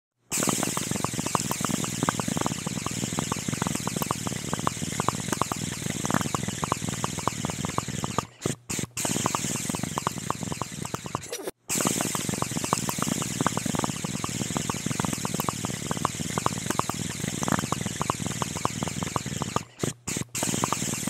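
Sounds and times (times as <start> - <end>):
crackling and sharp clicks: 0.3 - 21.0.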